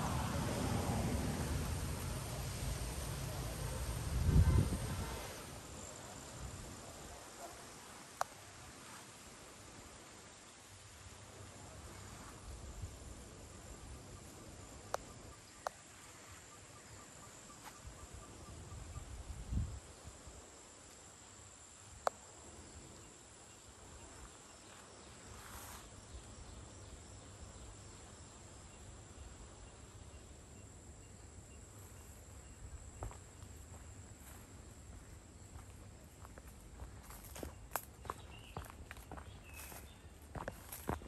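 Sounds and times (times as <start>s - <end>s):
insect drone: 0.0s - 41.0s.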